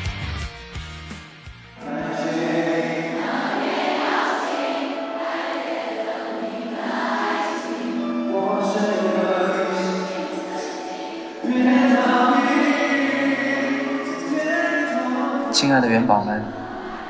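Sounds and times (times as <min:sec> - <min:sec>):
choir-like voices music: 0:01.6 - 0:17.0.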